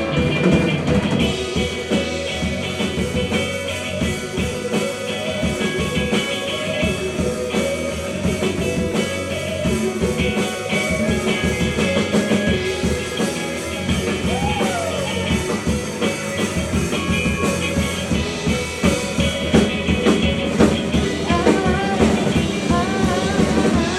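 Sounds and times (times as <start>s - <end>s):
rock band playing live: 0.0s - 23.9s.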